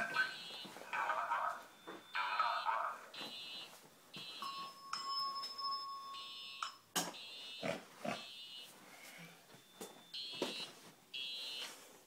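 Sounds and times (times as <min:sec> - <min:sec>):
steady high alarm tone: 0:00.0 - 0:08.8, 0:09.5 - 0:11.8.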